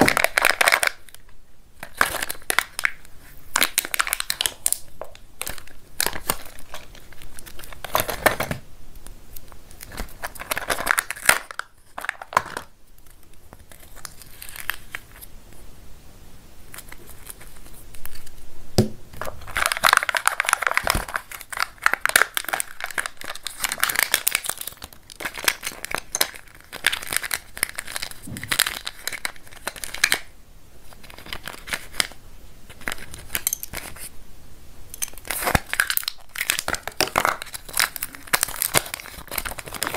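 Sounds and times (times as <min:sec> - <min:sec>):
plastic wrapper crinkling and tearing: 0:00.0 - 0:15.3, 0:16.7 - 0:18.5, 0:19.1 - 0:34.1, 0:35.0 - 0:39.9.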